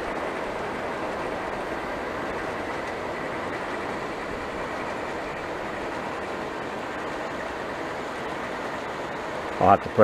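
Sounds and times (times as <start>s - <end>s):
model train wheels rolling: 0.0s - 9.9s.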